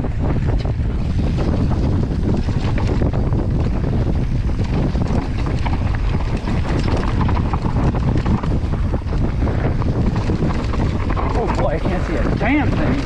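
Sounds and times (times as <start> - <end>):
bike rattling over bumps: 0.0 - 13.0
tyres rumbling on dirt trail: 0.0 - 13.0
wind buffeting microphone: 0.0 - 13.0.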